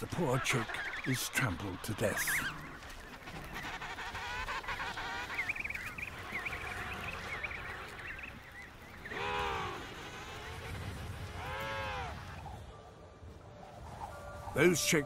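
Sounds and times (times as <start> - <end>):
penguins calling: 0.0 - 12.3.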